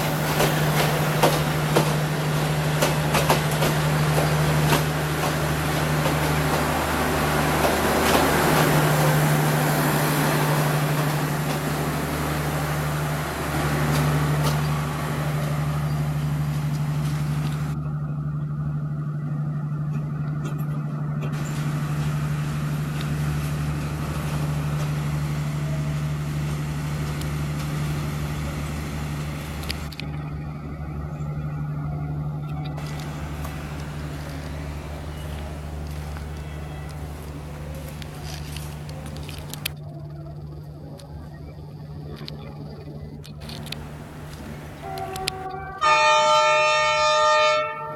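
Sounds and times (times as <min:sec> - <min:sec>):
noisy rumble: 0:00.0 - 0:45.7
locomotive engine drone: 0:00.0 - 0:47.9.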